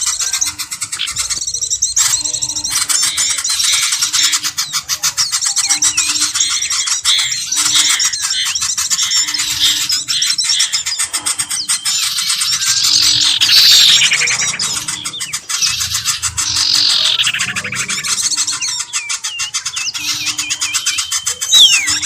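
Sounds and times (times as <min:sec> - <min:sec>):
small birds chirping and trilling: 0:00.0 - 0:22.0.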